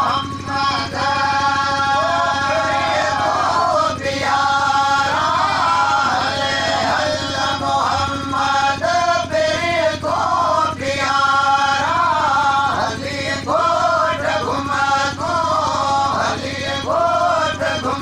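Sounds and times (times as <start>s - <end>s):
men chanting together: 0.0s - 18.0s
steady low hum: 0.0s - 18.0s.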